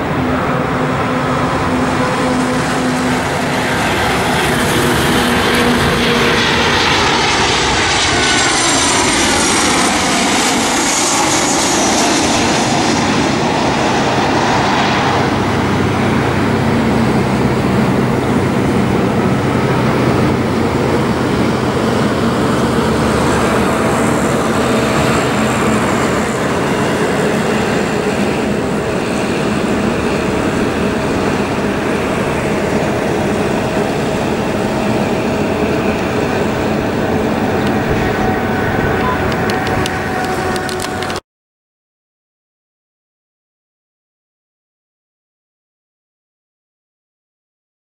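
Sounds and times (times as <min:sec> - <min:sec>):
jet engine whine passing overhead: 0:00.0 - 0:41.2
loud jet roar: 0:00.0 - 0:41.2.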